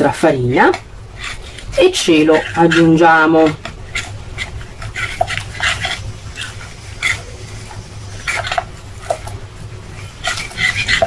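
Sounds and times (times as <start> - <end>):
steady low hum: 0.0 - 11.0
spoon scraping glass bowl: 1.2 - 11.0.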